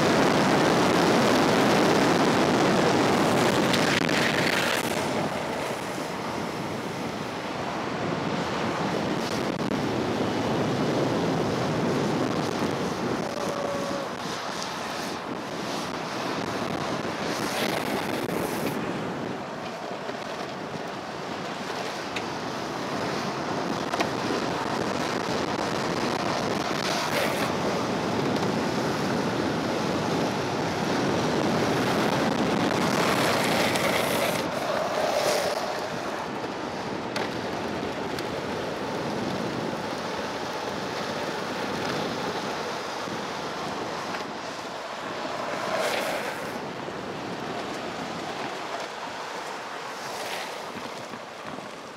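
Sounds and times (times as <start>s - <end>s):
wind on microphone: 0.0s - 19.7s, 23.0s - 48.6s
skateboard wheels rumbling on asphalt: 0.0s - 51.9s.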